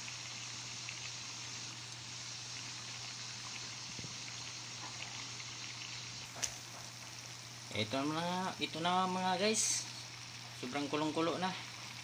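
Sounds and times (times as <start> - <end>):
broth boiling in a wok: 0.0 - 12.0.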